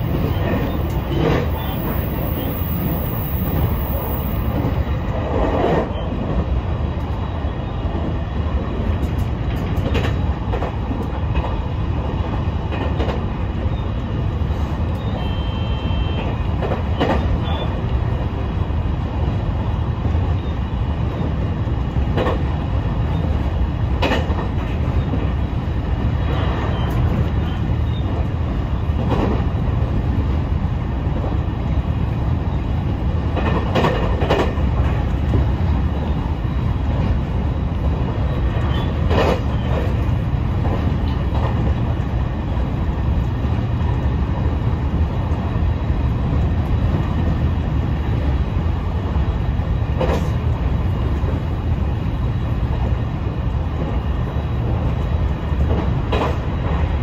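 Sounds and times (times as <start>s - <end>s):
wheels clacking on track: 0.0s - 7.2s, 7.9s - 15.2s, 16.0s - 20.2s, 21.0s - 57.0s
train wheels rumbling: 0.0s - 57.0s.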